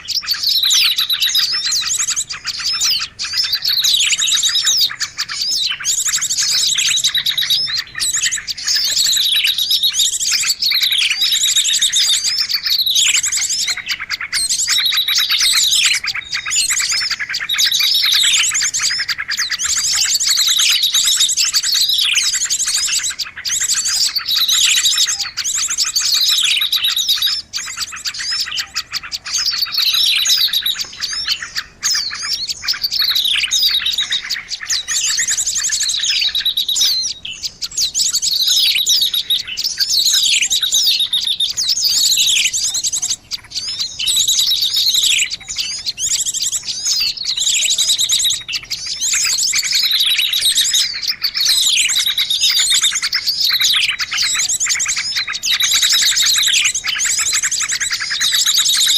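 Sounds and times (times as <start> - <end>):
high falling bird call: 0.0 - 58.9
small birds chattering: 0.0 - 58.9.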